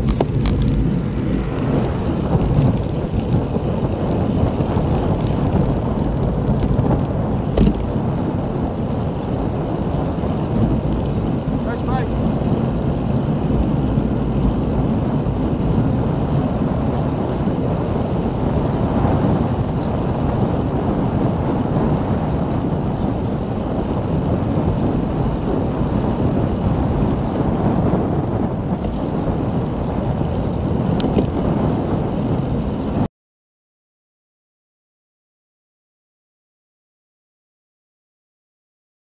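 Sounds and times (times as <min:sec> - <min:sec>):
wind buffeting microphone: 0:00.0 - 0:33.1.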